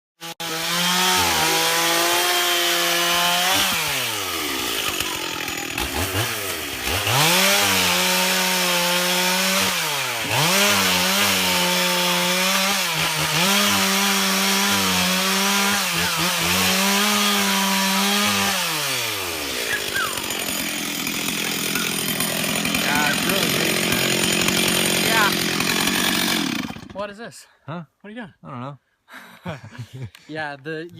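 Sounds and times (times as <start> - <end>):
chainsaw cutting wood: 0.2 - 27.0.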